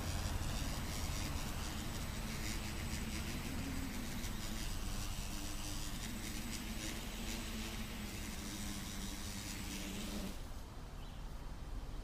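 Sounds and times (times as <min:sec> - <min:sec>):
drone motors humming: 0:00.0 - 0:10.6.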